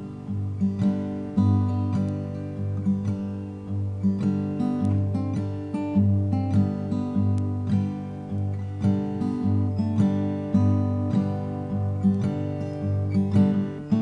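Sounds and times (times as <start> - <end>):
guitar chords strummed: 0.0 - 14.0.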